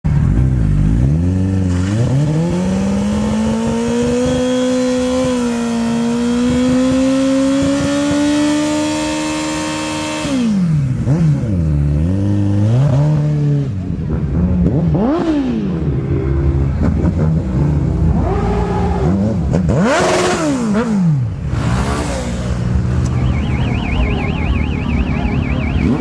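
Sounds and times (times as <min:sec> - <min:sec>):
motorcycle engine revving: 0:00.1 - 0:26.0.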